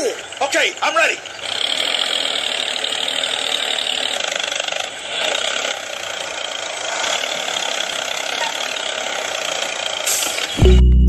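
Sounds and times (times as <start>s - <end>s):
toy truck motor whirring: 0.0s - 10.6s.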